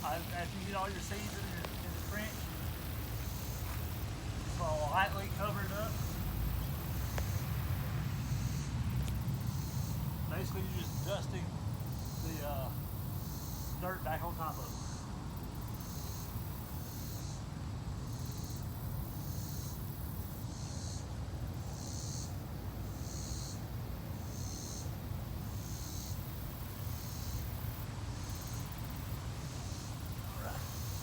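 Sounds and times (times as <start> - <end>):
insects calling in pulses: 0.0 - 31.0.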